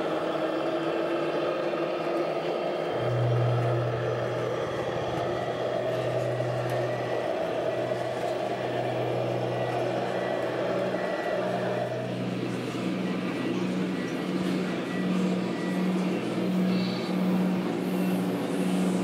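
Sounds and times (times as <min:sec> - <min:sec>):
toy truck diesel engine sound: 0:00.0 - 0:19.0.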